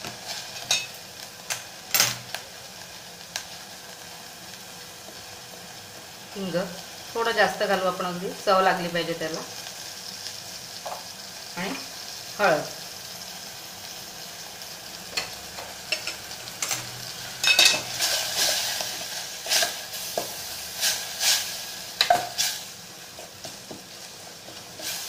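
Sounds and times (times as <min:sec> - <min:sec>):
greens sizzling in oil: 0:00.0 - 0:25.0.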